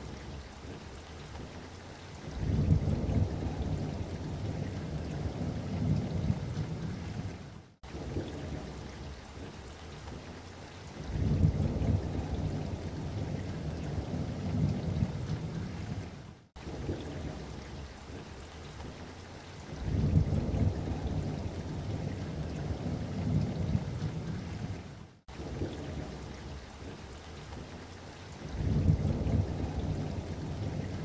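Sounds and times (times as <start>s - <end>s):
low rumbling noise: 2.3s - 9.6s, 11.1s - 19.0s, 19.7s - 27.8s, 28.5s - 31.0s.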